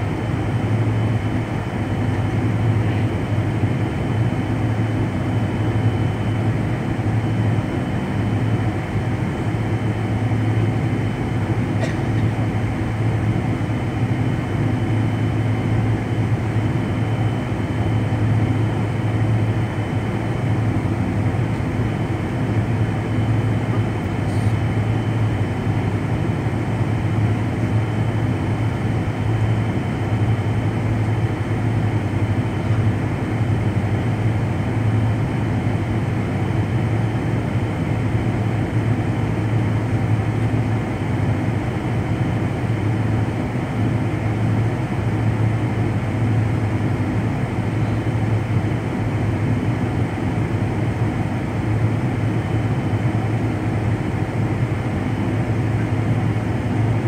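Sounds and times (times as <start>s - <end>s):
jet engines and air conditioning hum: 0.0s - 57.0s.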